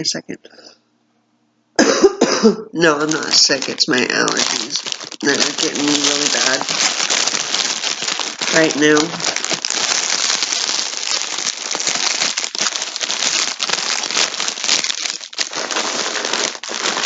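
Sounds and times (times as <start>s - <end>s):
plastic packaging crinkling: 2.8s - 17.0s.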